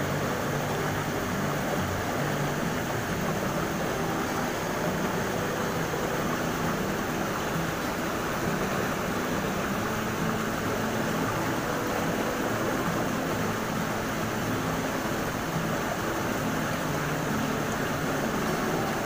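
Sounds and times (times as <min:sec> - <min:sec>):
river water rushing around rocks: 0:00.0 - 0:19.0.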